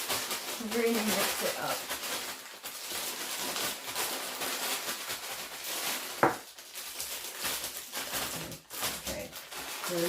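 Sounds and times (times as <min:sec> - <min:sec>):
bag rustling while shaken: 0:00.0 - 0:10.0.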